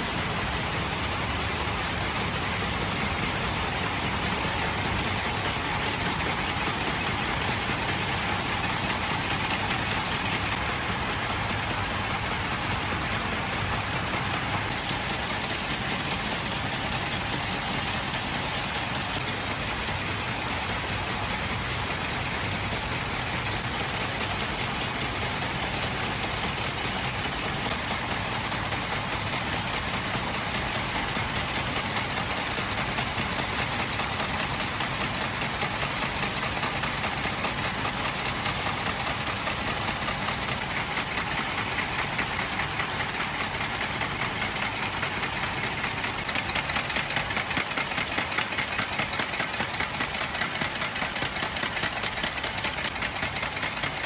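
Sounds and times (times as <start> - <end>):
factory machinery clattering: 0.0 - 54.0.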